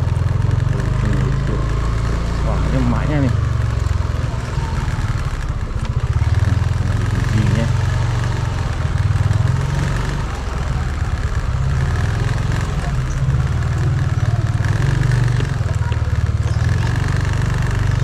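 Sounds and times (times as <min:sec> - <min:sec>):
scooter engine puttering: 0:00.0 - 0:18.0.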